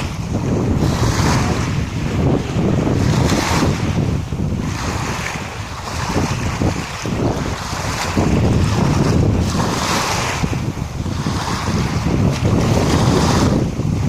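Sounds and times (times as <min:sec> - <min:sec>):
sea waves washing in: 0:00.0 - 0:14.0
wind buffeting microphone: 0:00.0 - 0:14.0.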